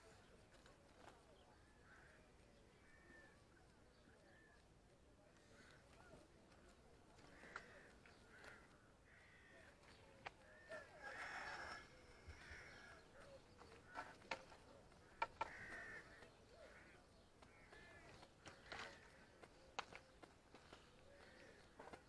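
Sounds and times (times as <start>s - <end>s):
faint bird calls: 0.0s - 22.0s.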